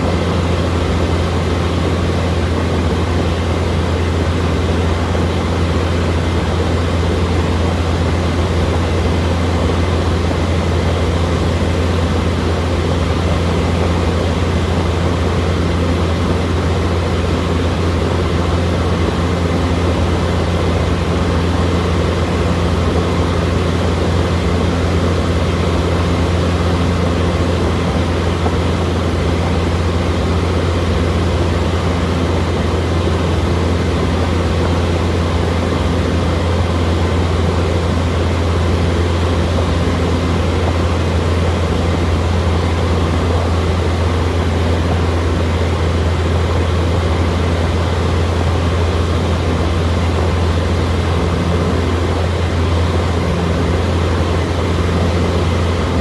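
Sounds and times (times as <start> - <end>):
propeller airplane engine drone: 0.0 - 56.0.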